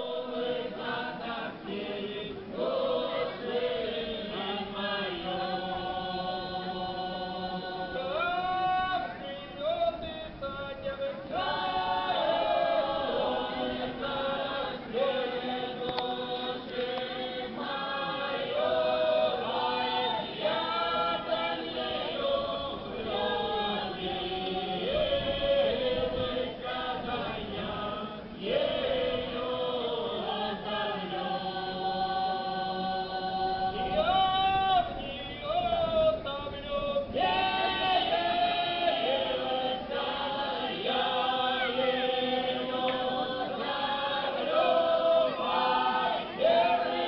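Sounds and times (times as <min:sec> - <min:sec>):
unaccompanied folk choir singing: 0:00.0 - 0:47.0.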